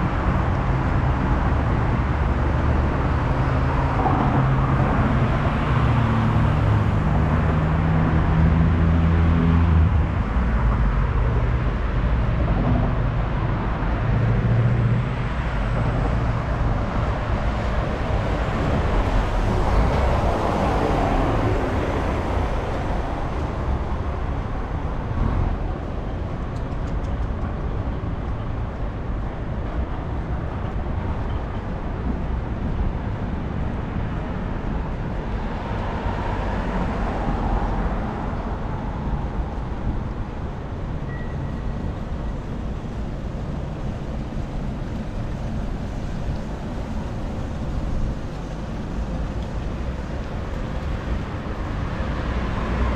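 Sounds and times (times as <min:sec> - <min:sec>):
vehicles passing: 0:00.0 - 0:52.9.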